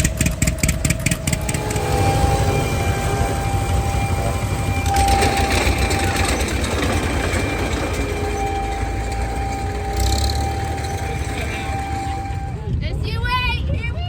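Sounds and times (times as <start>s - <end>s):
faint steady whine: 0.0s - 14.0s
machinery low rumble: 0.0s - 14.0s.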